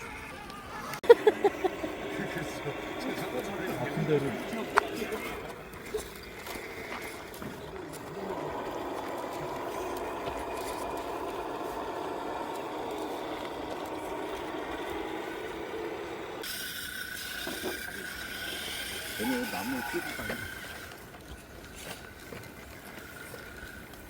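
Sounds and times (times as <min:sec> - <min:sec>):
higher steady whine: 0:00.0 - 0:21.1
electric motor whirring: 0:00.0 - 0:24.0.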